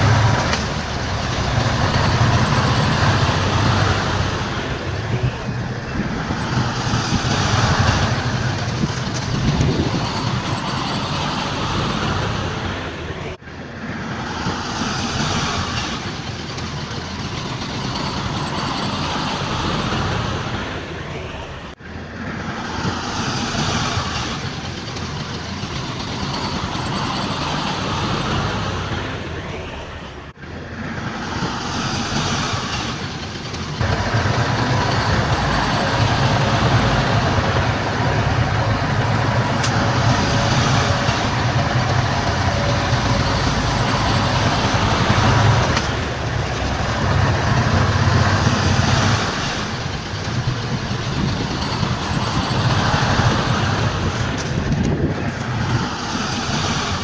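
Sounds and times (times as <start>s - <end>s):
heavy machinery diesel rumble: 0.0s - 57.0s
outdoor noise: 0.0s - 57.0s.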